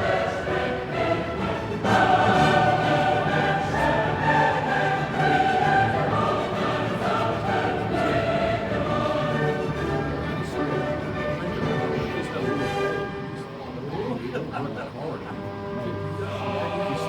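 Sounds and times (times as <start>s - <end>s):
choir singing long held notes: 0.0s - 13.2s, 15.5s - 17.0s.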